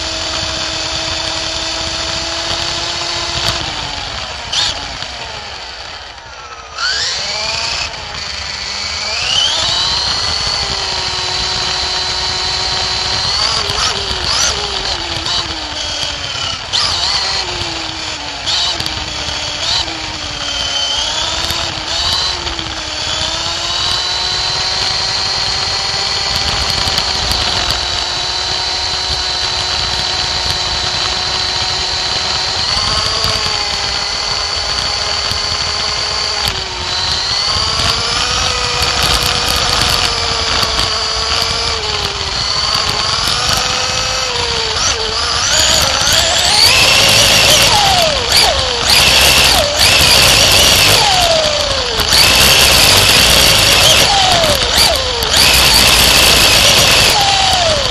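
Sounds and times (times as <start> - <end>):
rattling: 0.0 - 57.9
rc car motor whining: 0.0 - 57.9.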